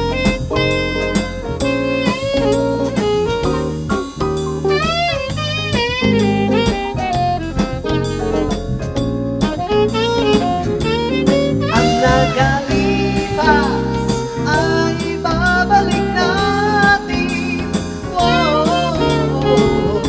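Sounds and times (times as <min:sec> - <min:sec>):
live band playing slow song: 0:00.0 - 0:20.0
saxophone melody: 0:00.0 - 0:20.0.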